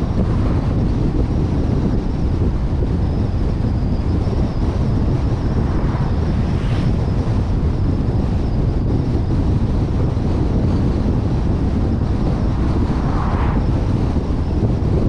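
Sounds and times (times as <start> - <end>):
vehicle engine and road noise: 0.0 - 15.0
wind buffeting microphone: 0.0 - 15.0.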